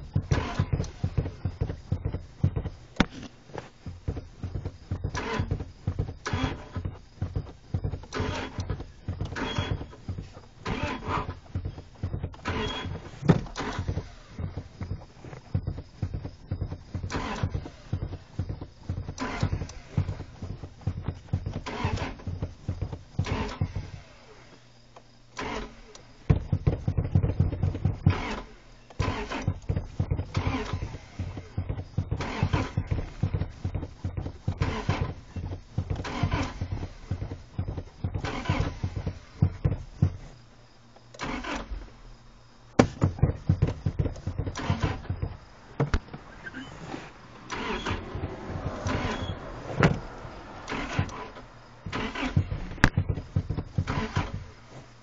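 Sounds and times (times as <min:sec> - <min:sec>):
car engine cranking: 0:00.0 - 0:55.0.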